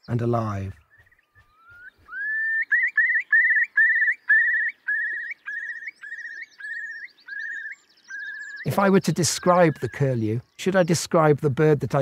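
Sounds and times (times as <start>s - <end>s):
curlew bubbling song: 0.0s - 12.0s.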